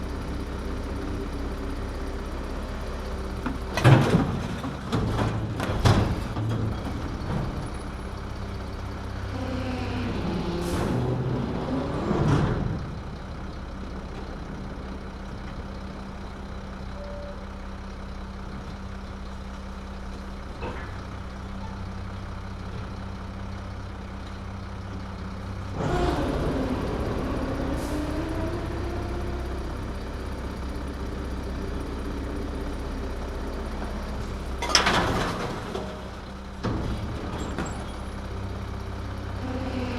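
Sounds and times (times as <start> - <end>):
garbage truck engine running: 0.0 - 39.9.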